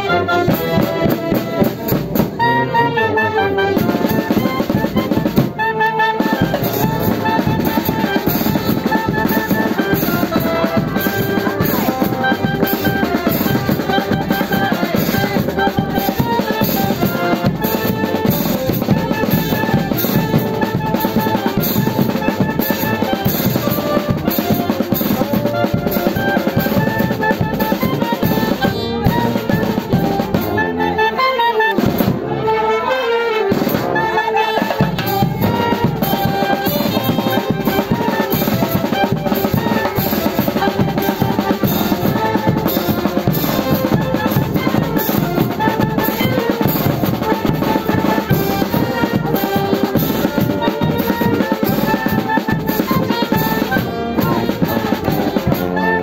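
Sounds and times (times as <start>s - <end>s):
brass and drums street band: 0.0s - 56.0s.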